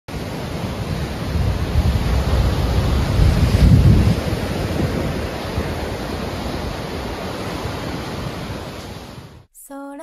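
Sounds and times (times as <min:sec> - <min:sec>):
ocean surf washing onto beach: 0:00.1 - 0:09.5
wind: 0:00.1 - 0:09.5.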